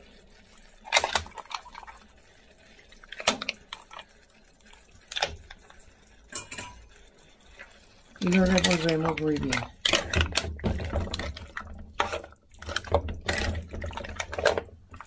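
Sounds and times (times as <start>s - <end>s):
water dripping: 0.0s - 15.0s.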